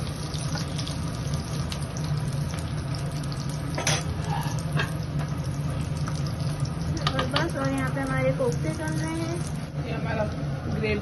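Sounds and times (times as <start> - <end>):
cooking hiss: 0.0 - 10.9.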